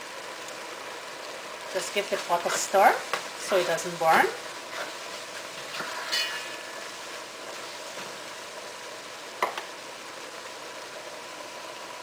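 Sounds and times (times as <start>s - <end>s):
beans simmering and sizzling: 0.0s - 12.0s.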